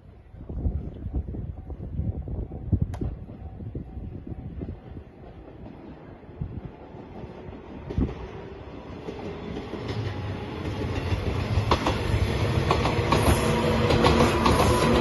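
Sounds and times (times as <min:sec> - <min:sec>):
train approaching: 0:01.3 - 0:15.0.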